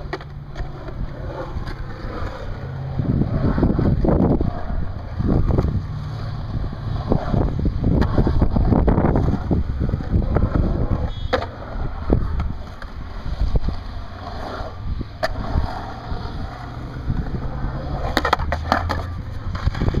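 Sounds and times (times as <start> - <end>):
skateboard clacks: 0.0 - 20.0
skateboard wheels rolling on concrete: 0.0 - 20.0.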